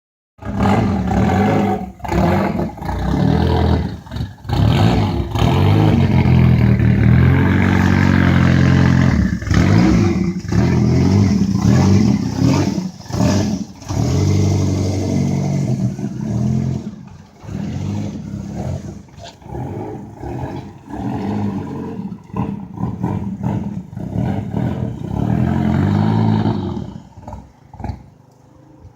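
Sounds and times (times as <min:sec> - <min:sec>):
race car engine revving: 0:00.4 - 0:28.3.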